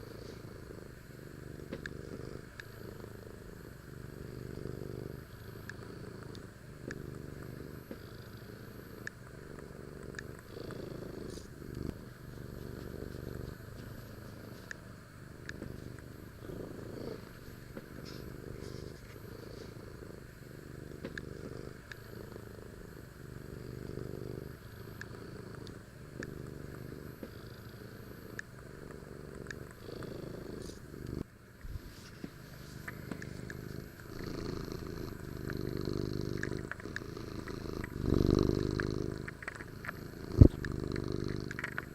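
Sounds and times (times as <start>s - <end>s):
kitten purring: 0.0s - 41.9s.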